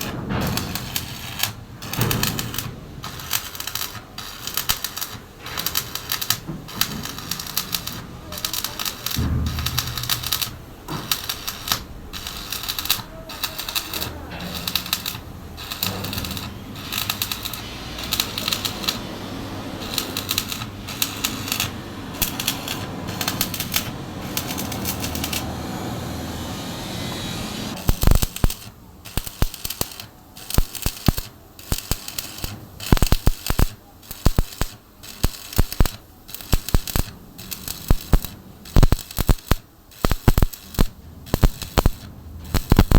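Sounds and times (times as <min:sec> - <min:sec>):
electric arc welding crackle: 0:00.0 - 0:42.9.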